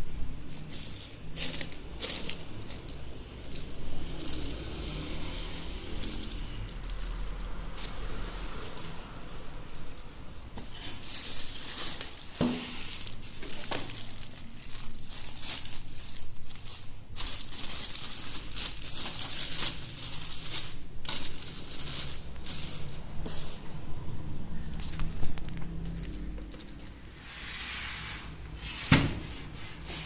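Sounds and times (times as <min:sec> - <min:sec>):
packaging rustling and crinkling: 0:00.3 - 0:23.9, 0:24.5 - 0:30.0.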